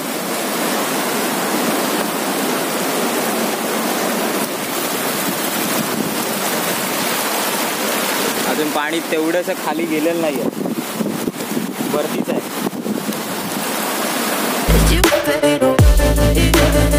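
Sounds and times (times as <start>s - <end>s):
sea surf rushing: 0.0s - 16.9s.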